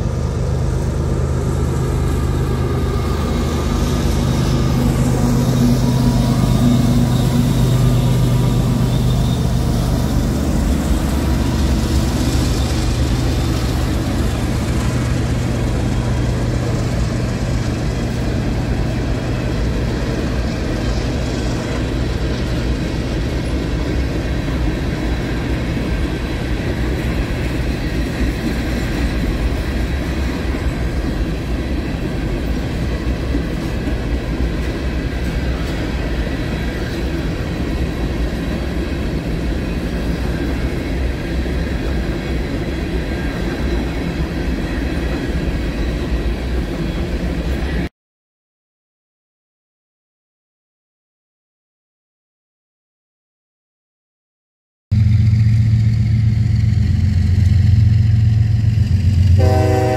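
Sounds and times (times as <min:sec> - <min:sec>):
train wheels rumbling on rails: 0:00.0 - 0:47.9, 0:54.9 - 0:59.9.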